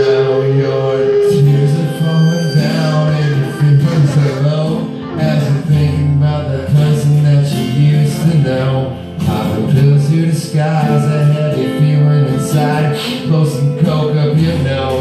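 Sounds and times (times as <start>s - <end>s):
acoustic guitars strumming chords: 0.0s - 15.0s.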